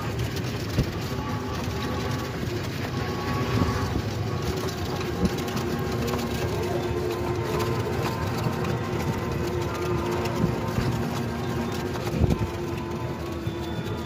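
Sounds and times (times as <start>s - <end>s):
rickshaw road rumble and rattle: 0.0s - 14.0s.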